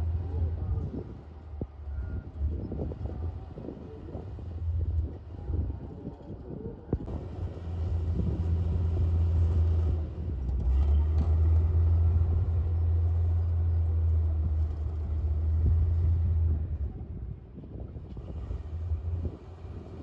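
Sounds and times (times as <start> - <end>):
bulldozer diesel engine working: 0.0 - 5.9, 7.0 - 17.2.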